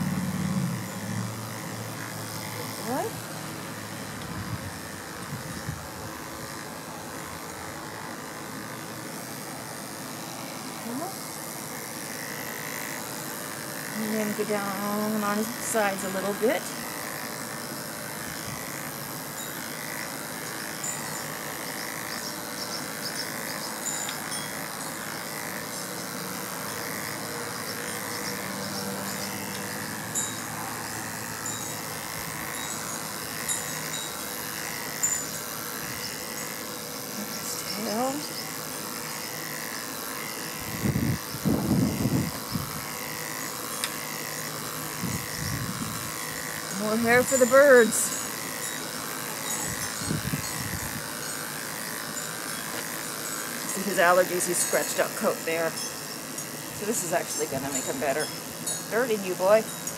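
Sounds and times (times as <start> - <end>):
electric clippers cutting fur: 0.0 - 59.9.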